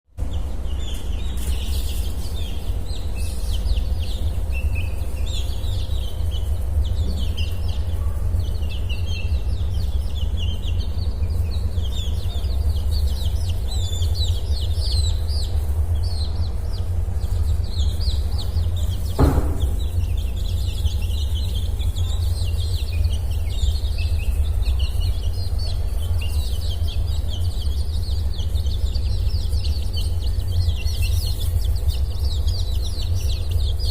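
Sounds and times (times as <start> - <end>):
steady low hum: 0.1 - 33.9
chicks peeping: 0.2 - 33.9.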